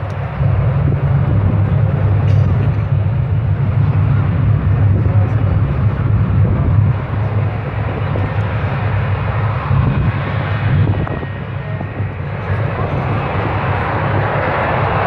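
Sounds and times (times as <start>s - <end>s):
jet engine rumbling: 0.0s - 15.0s.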